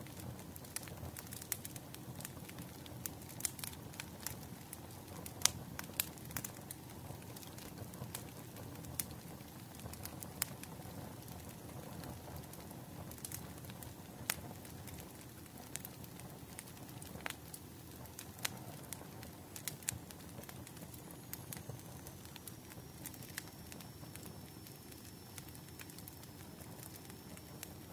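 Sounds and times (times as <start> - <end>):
bonfire crackling: 0.0 - 27.9.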